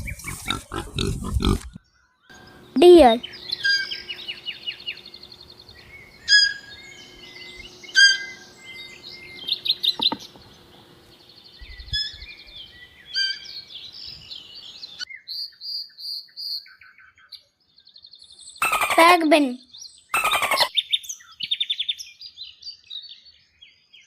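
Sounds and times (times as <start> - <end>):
birds chirping and trilling: 0.0 - 24.0.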